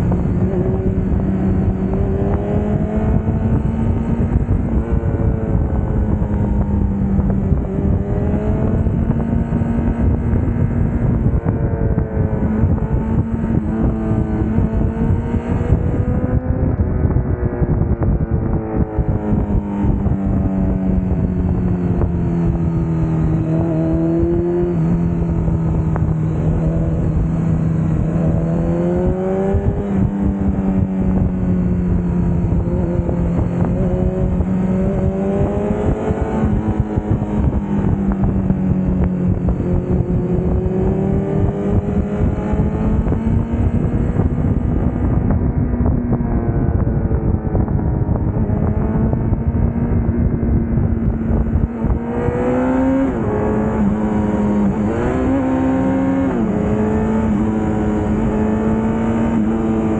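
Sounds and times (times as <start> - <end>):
motorcycle engine revving: 0.0 - 59.9
wind rushing: 0.0 - 59.9.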